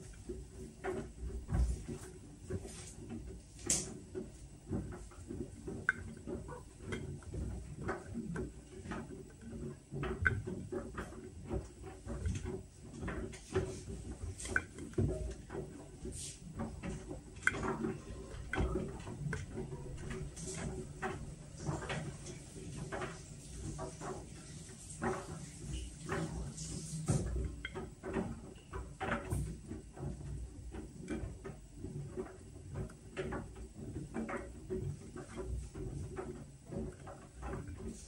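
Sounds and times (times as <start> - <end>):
irregular clicks and knocks: 0.0 - 38.0
washing machine humming: 0.0 - 38.0.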